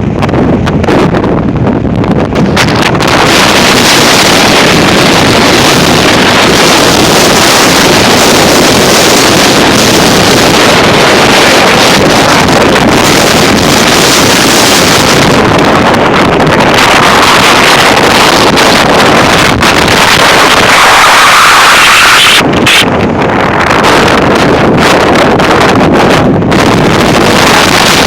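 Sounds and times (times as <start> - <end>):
wind gusts on microphone: 0.0 - 28.0.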